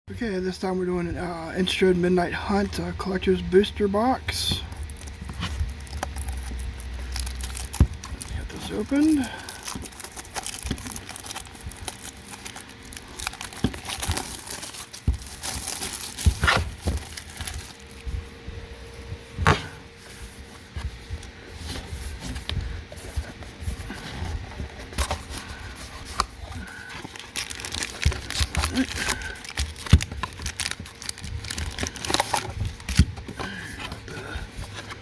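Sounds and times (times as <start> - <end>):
plastic shrink-wrap crinkling: 2.5 - 18.3, 20.0 - 35.0.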